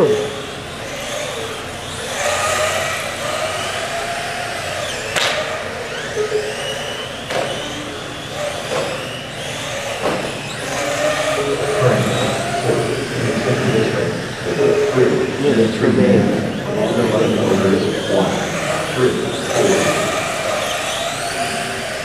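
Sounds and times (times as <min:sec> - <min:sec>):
model car engines whining: 0:00.0 - 0:22.0.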